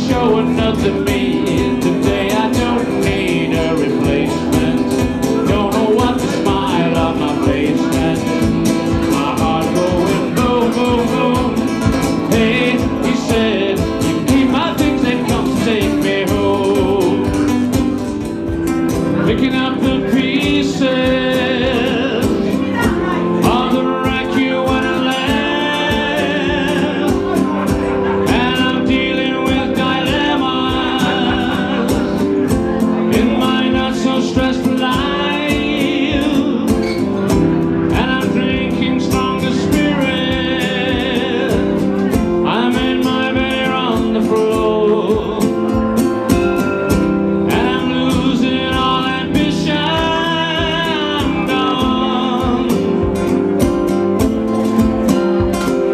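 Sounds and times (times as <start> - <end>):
man singing: 0.0 - 55.9
strummed acoustic guitar: 0.0 - 55.9.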